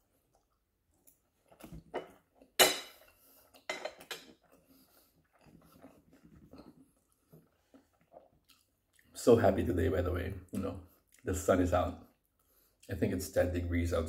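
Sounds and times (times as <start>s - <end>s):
soft chewing: 0.0s - 9.3s, 10.3s - 13.0s.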